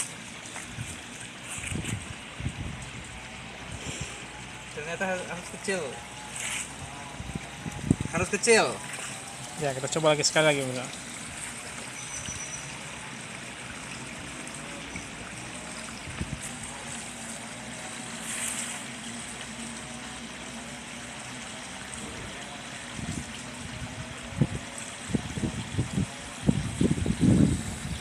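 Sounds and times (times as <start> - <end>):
water splashing and rushing: 0.0 - 28.0.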